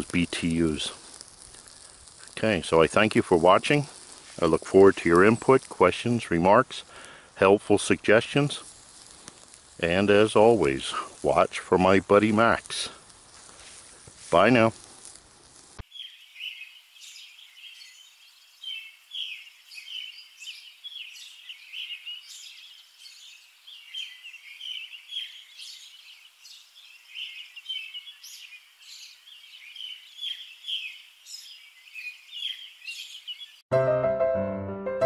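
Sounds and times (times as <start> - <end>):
small birds chirping: 0.0 - 15.2, 15.8 - 33.6.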